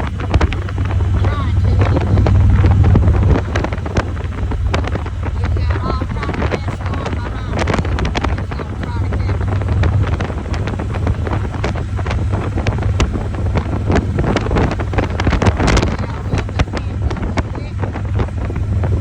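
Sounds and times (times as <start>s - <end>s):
motorcycle engine and road drone: 0.0s - 19.0s
wind buffeting microphone: 0.0s - 19.0s.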